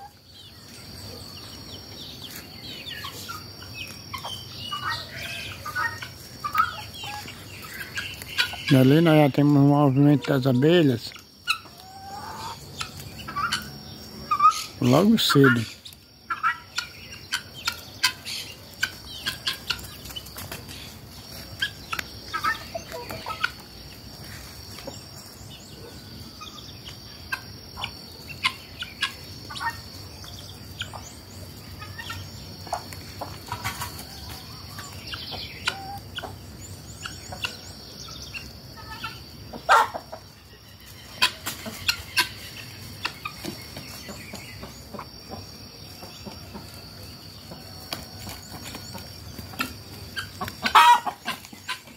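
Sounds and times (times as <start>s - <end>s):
guineafowl harsh calls: 0.0s - 21.0s, 21.6s - 23.8s, 25.6s - 51.9s
chickens clucking: 0.0s - 51.9s.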